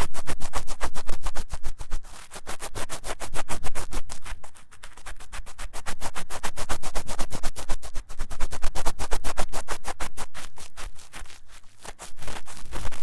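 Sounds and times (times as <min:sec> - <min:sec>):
scratching on microphone ear: 0:00.0 - 0:13.0.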